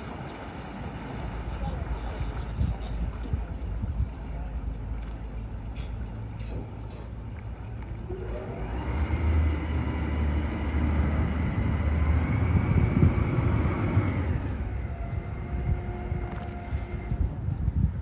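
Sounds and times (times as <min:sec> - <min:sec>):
boat engine rumble and whine: 0:00.0 - 0:18.0.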